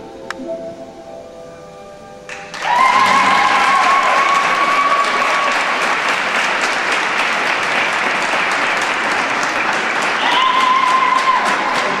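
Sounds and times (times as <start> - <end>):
audience applauding: 2.3 - 12.0.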